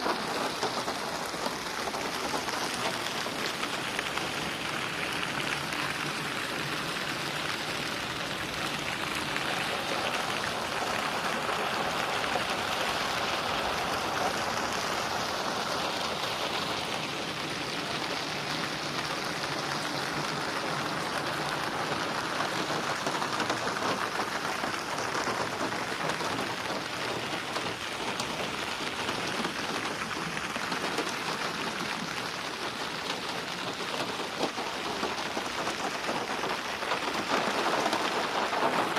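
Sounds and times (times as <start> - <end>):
rain splashing on a surface: 0.0 - 38.9.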